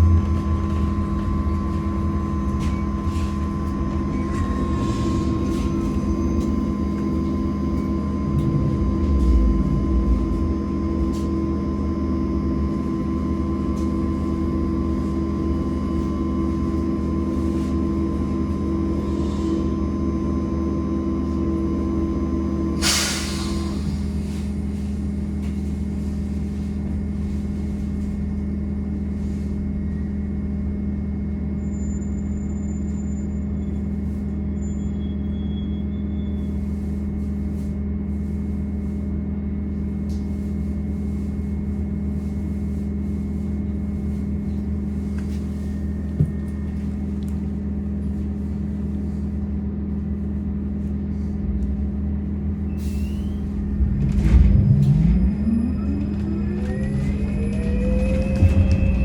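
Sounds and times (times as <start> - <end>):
low rumble: 0.0 - 30.0, 36.6 - 59.0
trolleybus electrical hum: 0.0 - 59.0.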